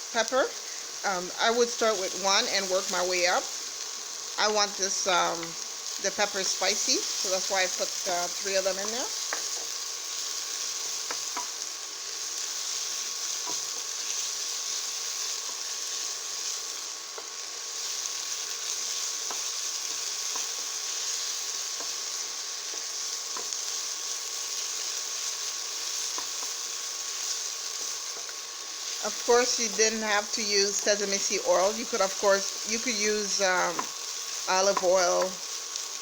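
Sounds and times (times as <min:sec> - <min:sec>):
onions sizzling in hot oil: 0:00.0 - 0:36.0.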